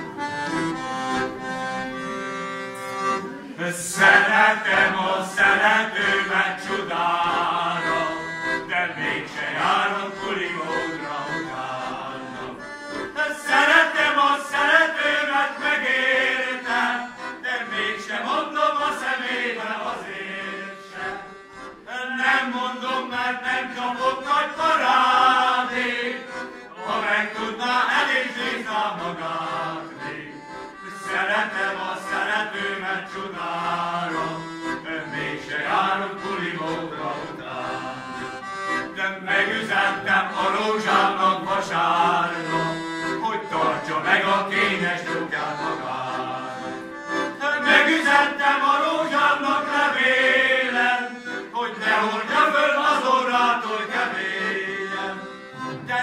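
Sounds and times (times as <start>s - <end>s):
accordion: 0.0s - 56.0s
men's choir singing folk song: 3.0s - 56.0s.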